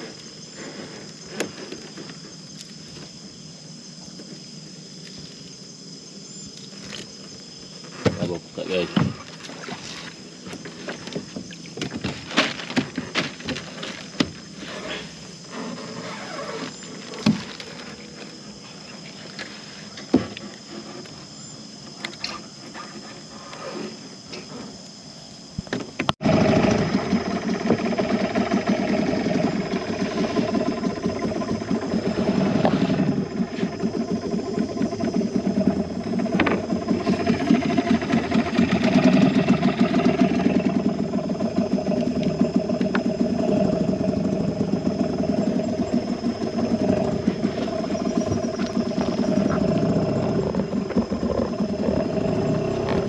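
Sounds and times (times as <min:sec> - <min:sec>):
small boat engine chugging: 0:05.9 - 0:24.6, 0:26.2 - 0:53.0.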